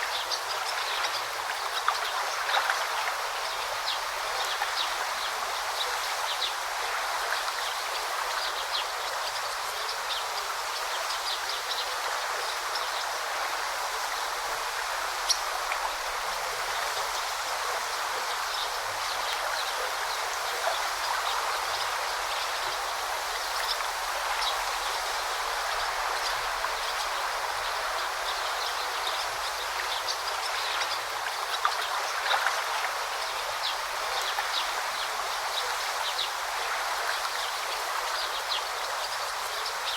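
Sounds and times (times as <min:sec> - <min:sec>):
river babbling and rushing: 0:00.0 - 0:39.9.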